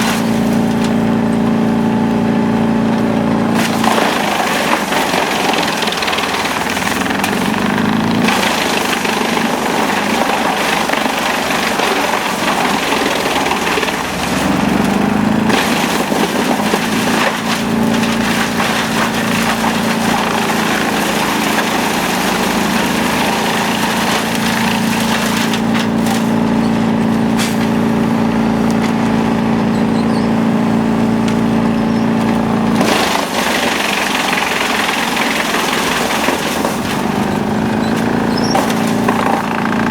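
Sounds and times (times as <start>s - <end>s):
wood being shredded: 0.0s - 39.9s
wood chipper engine drone: 0.0s - 39.9s.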